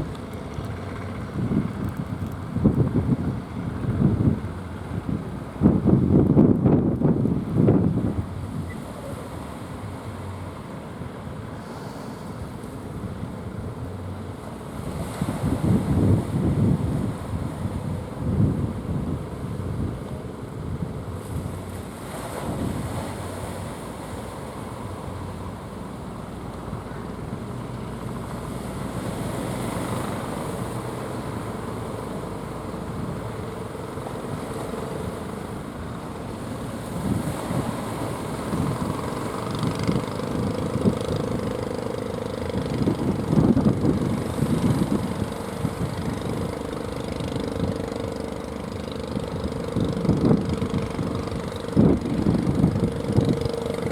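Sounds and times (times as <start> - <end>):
boat motor running: 0.0 - 53.9
wind rumbling on microphone: 0.0 - 53.9.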